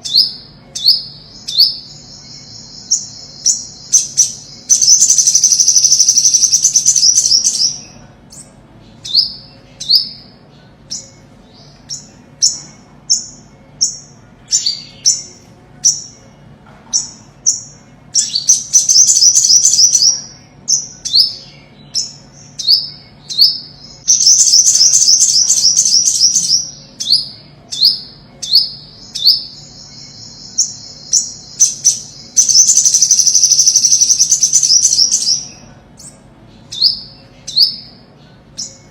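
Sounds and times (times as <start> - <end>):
bird singing trills and sharp notes: 0.0 - 16.3, 16.9 - 38.9.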